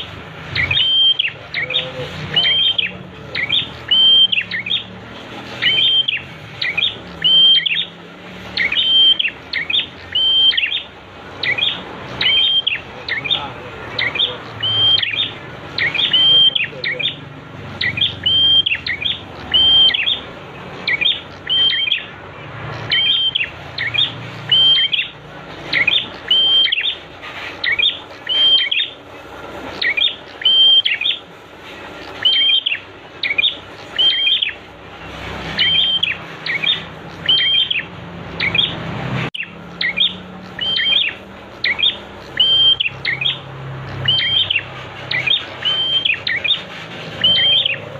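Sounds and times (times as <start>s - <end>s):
bird chirping: 0.0s - 47.9s.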